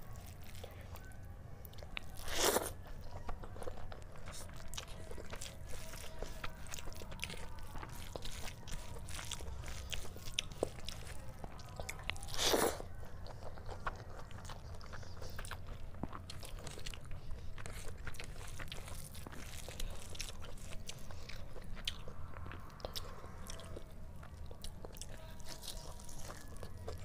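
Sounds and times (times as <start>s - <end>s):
wet chewing: 0.0s - 27.0s.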